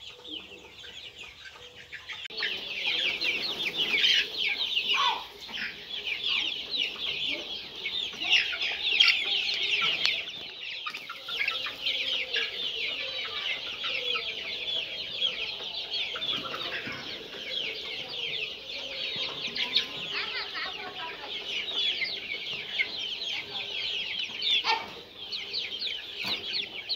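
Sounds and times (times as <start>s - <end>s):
chicks cheeping: 0.0s - 26.9s.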